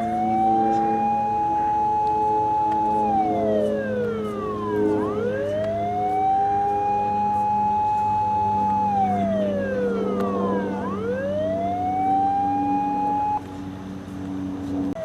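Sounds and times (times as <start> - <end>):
electronic siren wailing: 0.0 - 13.4
steady low hum: 0.0 - 15.0.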